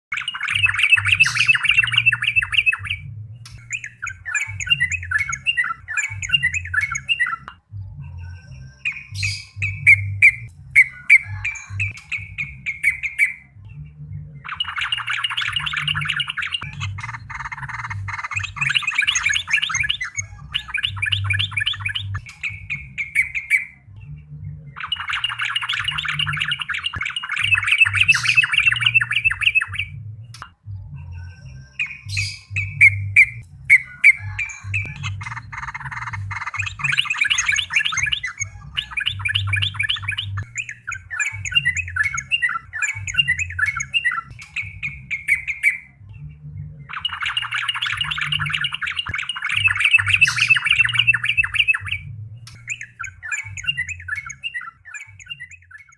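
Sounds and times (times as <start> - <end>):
bird chattering song: 0.1 - 55.9
faint low hum: 0.6 - 55.9.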